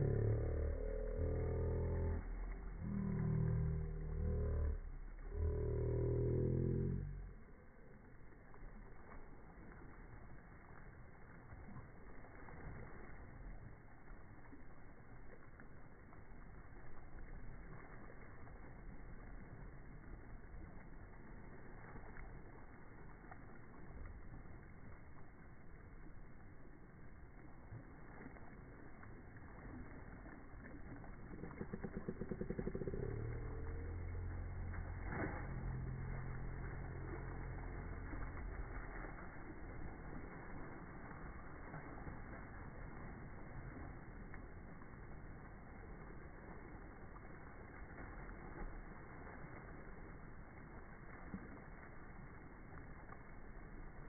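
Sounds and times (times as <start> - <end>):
sea water lapping: 0.0 - 54.0
small clicks and splashes: 0.0 - 54.0.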